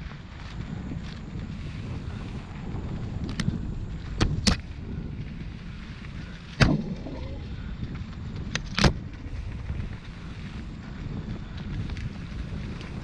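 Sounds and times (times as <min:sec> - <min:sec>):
bike tyres rolling on dirt: 0:00.0 - 0:13.0
wind on microphone: 0:00.0 - 0:13.0.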